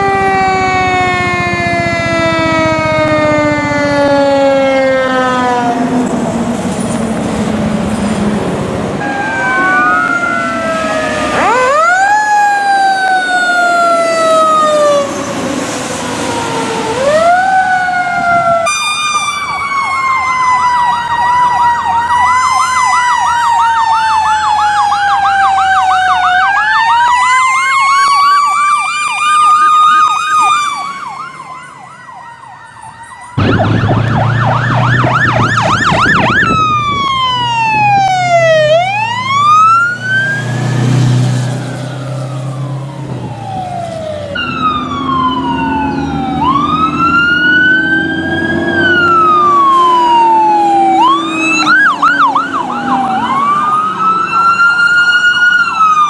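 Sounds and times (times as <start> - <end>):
fire truck sirens yelping and wailing: 0.0 - 56.0.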